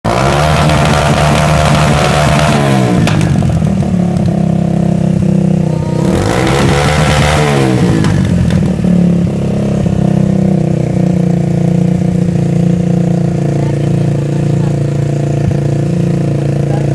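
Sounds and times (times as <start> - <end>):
vehicle engine revving and idling: 0.1 - 16.9.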